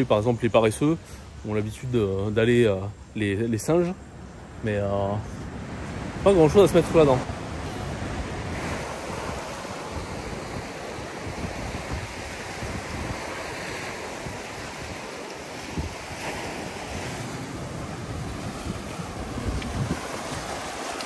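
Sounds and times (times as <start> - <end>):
sea waves washing up beach: 0.0 - 21.0
wind buffeting microphone: 4.1 - 21.0.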